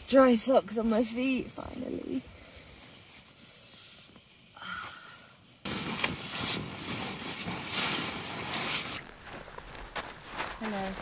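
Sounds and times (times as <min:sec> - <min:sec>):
rustling of nylon tent fabric: 0:00.0 - 0:04.6, 0:05.4 - 0:11.0.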